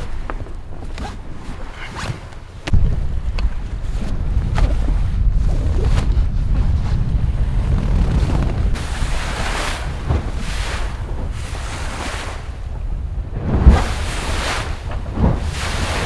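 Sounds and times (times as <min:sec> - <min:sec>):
water rushing along a hull: 0:00.0 - 0:16.0
wind buffeting microphone: 0:00.0 - 0:16.0.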